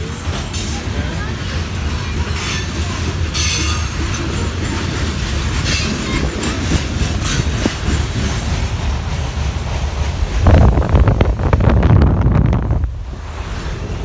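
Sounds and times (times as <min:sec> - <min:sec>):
freight train rumbling on rails: 0:00.0 - 0:14.0.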